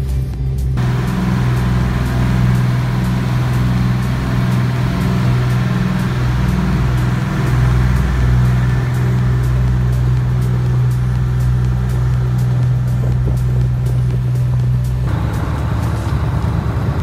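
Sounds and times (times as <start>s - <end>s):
boat engines droning: 0.8s - 17.0s
rushing wake water: 0.8s - 17.0s.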